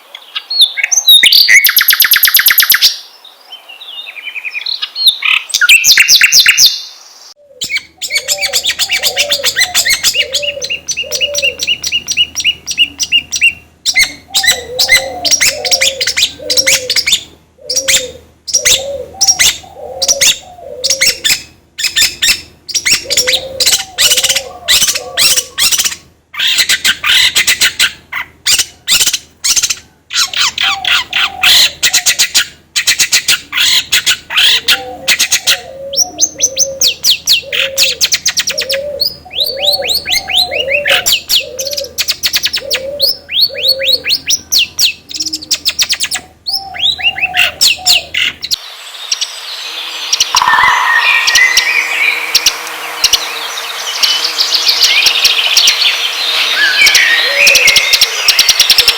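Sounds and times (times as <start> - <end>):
songbirds chirping and trilling: 0.0 - 58.9
bird cooing call: 7.4 - 26.0, 29.8 - 58.9.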